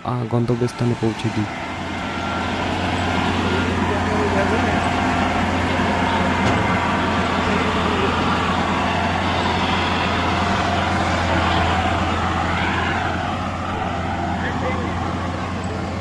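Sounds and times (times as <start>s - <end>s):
harvester engine running: 0.0s - 16.0s.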